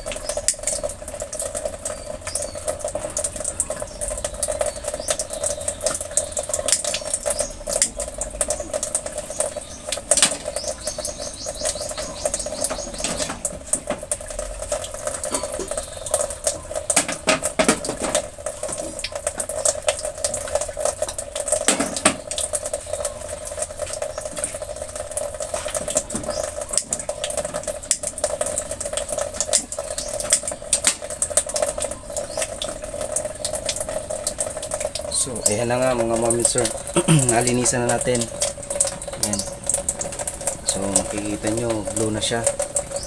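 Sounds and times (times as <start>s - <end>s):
gas range humming: 0.0s - 43.0s
pot boiling and bubbling: 0.0s - 43.0s.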